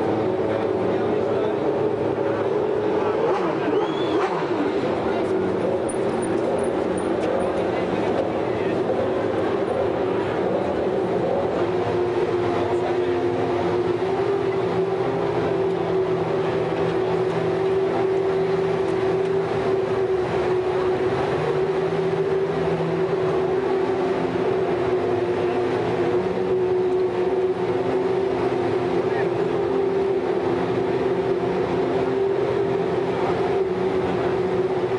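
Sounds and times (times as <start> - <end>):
racing car engine running: 0.0 - 34.9.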